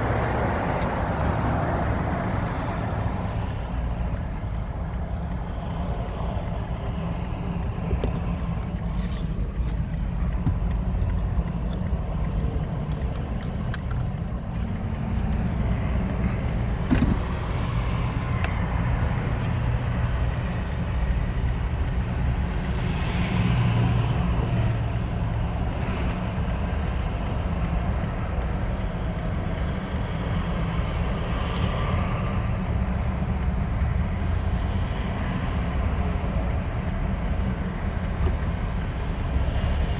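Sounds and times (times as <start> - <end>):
road vehicles rumbling: 0.0 - 39.9.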